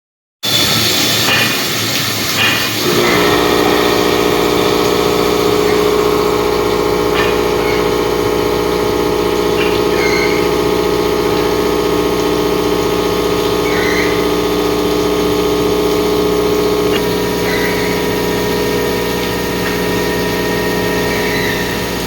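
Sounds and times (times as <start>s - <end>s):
milling machine whine: 0.5s - 22.0s
milling cut rushing noise: 2.8s - 22.0s.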